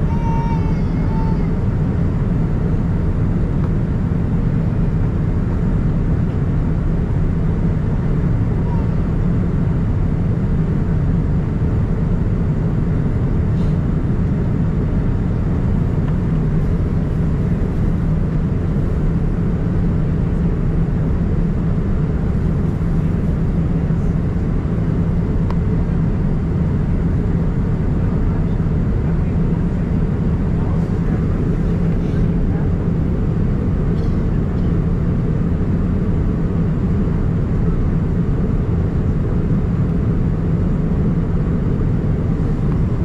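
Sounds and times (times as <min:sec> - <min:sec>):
airliner cabin rumble: 0:00.0 - 0:43.0.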